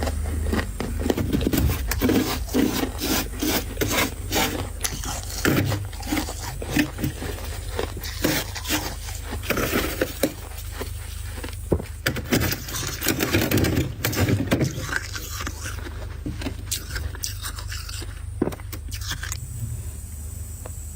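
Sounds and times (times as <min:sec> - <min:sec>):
frost being scraped and crunched: 0:00.0 - 0:19.4
steady low hum: 0:00.0 - 0:20.9.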